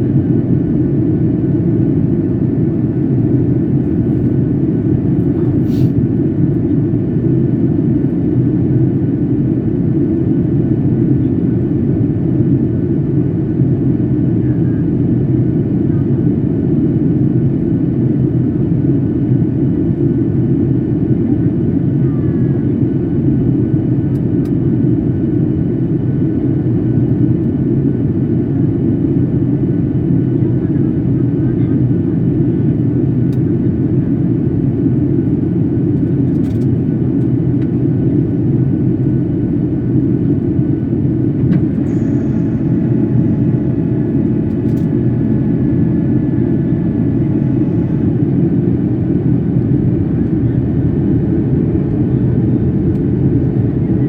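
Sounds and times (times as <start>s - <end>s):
airliner cabin roar: 0.0s - 54.0s.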